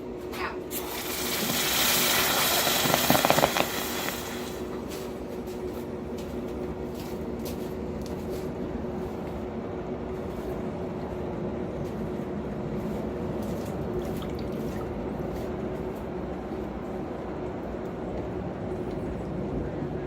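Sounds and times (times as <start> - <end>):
forge humming: 0.0 - 20.0.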